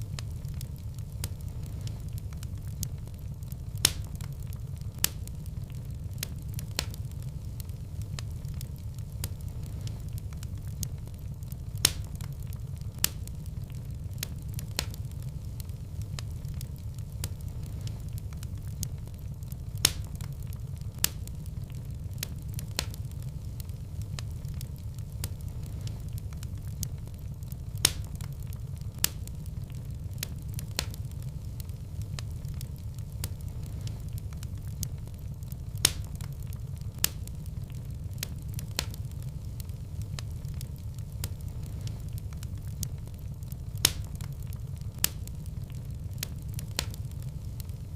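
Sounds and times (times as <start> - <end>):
burning wood crackling and popping: 0.0 - 47.9
fireplace fire rumbling: 0.0 - 47.9.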